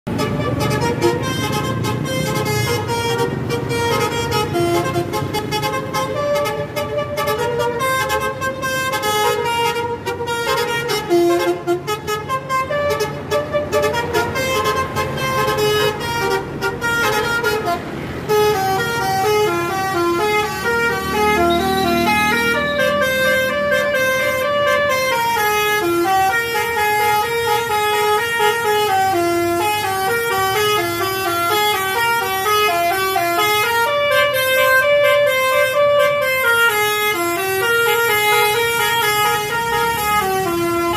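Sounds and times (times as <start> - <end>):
multi-tone air horn tune: 0.1 - 40.9.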